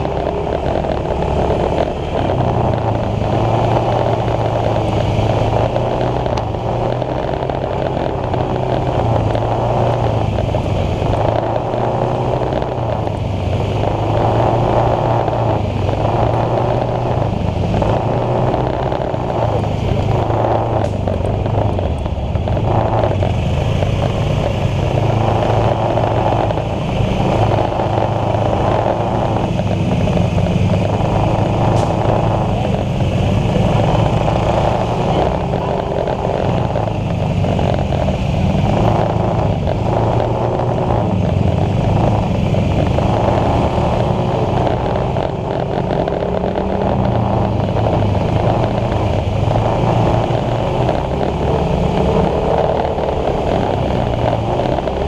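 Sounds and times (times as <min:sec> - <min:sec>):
continuous traffic rush: 0:00.0 - 0:55.0
scooter engine running: 0:00.0 - 0:55.0.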